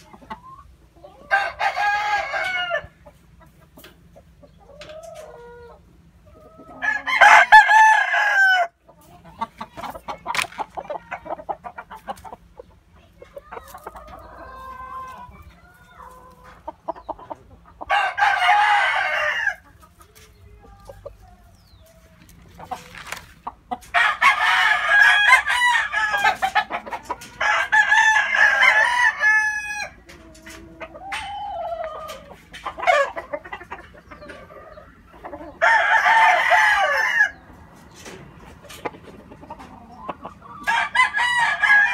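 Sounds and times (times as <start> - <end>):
roosters crowing: 0.0 - 3.4, 4.6 - 12.2, 13.4 - 19.9, 20.7 - 38.2, 39.1 - 41.9.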